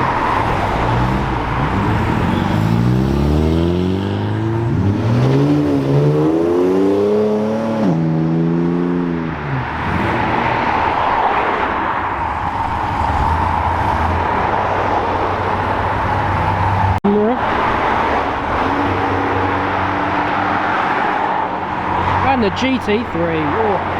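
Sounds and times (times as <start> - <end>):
car engine accelerating: 0.0 - 23.9
traffic engine and road noise: 0.0 - 23.9.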